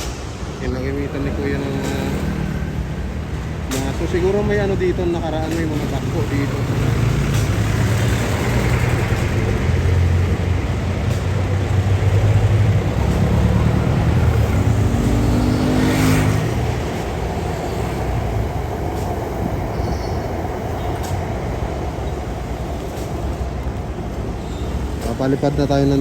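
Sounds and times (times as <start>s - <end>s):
heavy vehicle engine rumbling: 0.0s - 26.0s.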